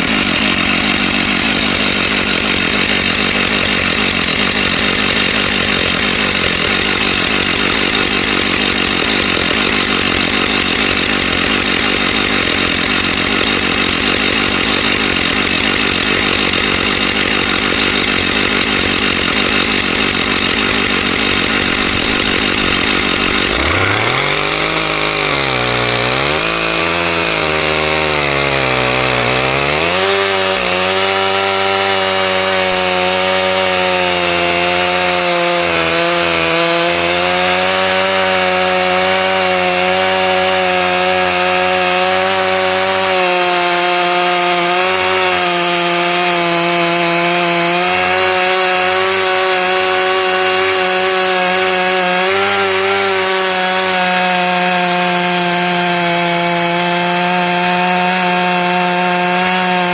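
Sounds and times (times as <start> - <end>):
chainsaw cutting through log: 0.0 - 59.9.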